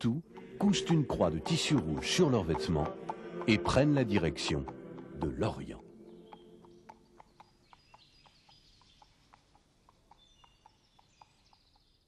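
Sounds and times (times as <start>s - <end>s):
faint birdsong: 0.0s - 12.0s
horse hooves clip-clopping: 0.0s - 12.0s.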